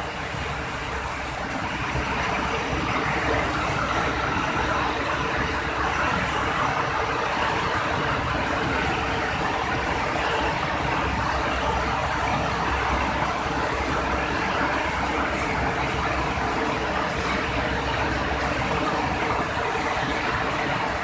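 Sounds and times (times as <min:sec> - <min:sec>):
industrial machinery running: 0:00.0 - 0:21.0.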